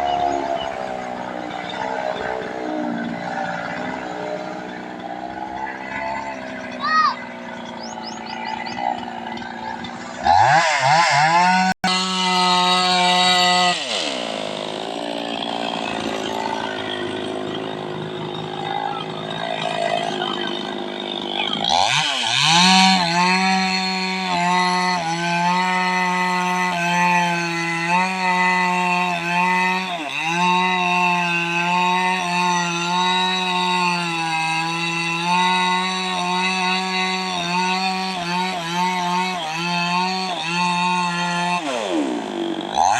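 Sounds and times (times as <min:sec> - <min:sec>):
tractor engine revving: 0:00.0 - 0:42.9.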